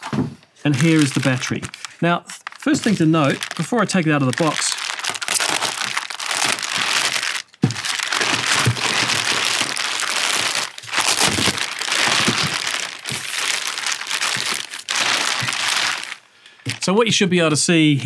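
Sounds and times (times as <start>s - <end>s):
plastic film crinkling: 0.7s - 16.9s.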